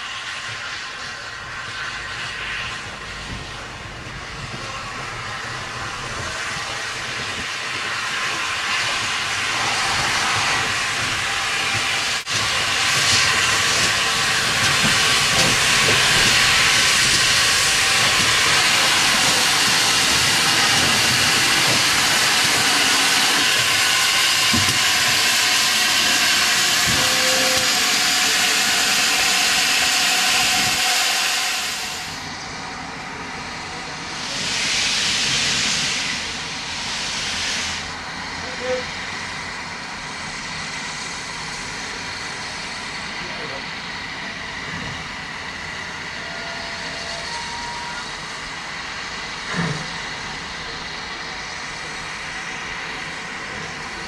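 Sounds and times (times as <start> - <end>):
steam hissing from safety valves: 0.0 - 54.0.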